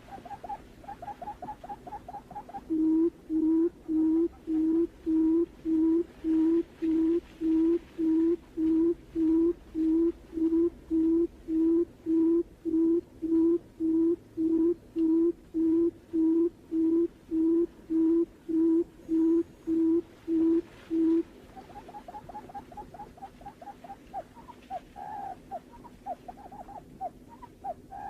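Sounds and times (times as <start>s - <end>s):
buttonquail low hooting call: 0.0s - 28.0s.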